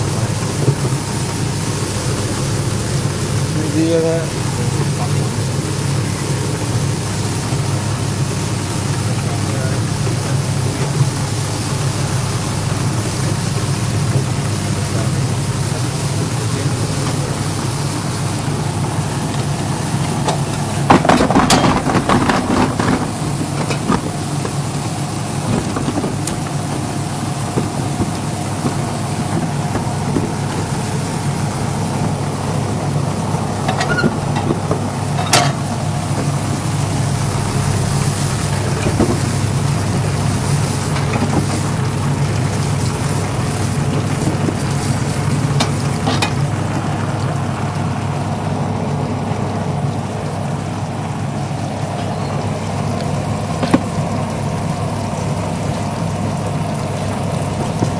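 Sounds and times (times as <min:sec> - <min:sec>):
electric motor hum: 0:00.0 - 0:57.9.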